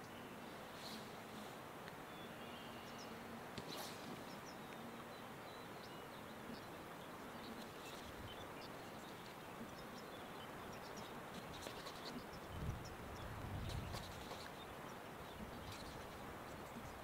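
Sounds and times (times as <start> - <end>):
background hiss: 0.0 - 17.0
faint low hum: 0.0 - 17.0
small birds chirping: 0.0 - 17.0.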